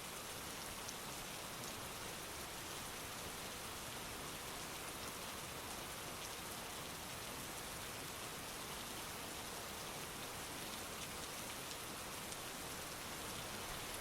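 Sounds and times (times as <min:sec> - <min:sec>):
heavy rain falling: 0:00.2 - 0:14.0.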